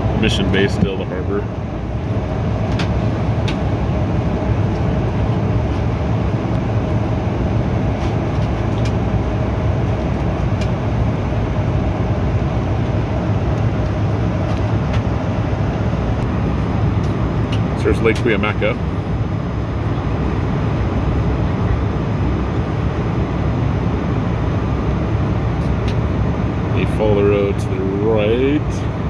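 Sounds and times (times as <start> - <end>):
jet engine drone: 0.0 - 29.0
steady hum: 0.0 - 29.0.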